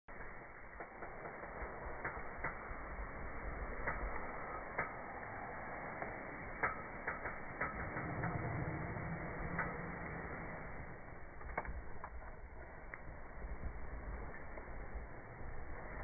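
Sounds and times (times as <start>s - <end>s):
fire pops: 0.1s - 16.0s
wood fire crackling: 0.1s - 16.0s.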